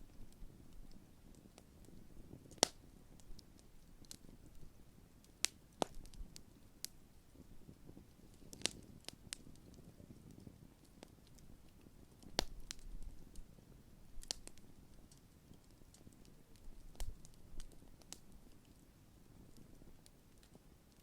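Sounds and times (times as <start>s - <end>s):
campfire crackling and popping: 0.0s - 21.0s
soft rustle of flames: 0.0s - 21.0s.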